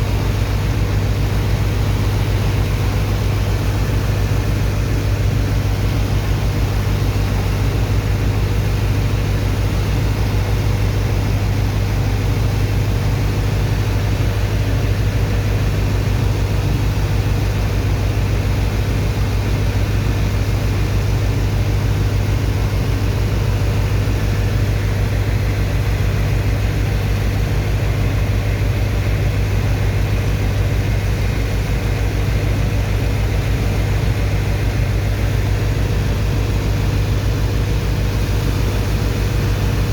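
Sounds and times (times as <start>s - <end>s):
pump engine droning: 0.0s - 39.9s.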